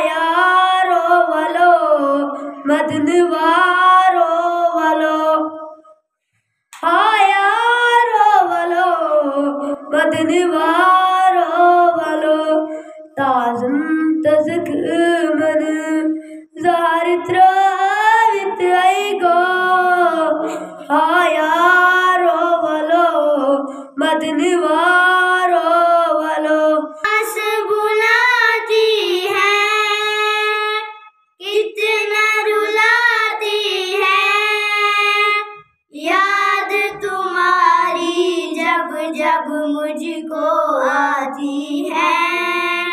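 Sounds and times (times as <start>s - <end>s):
boy singing: 0.0s - 5.7s, 6.8s - 42.9s.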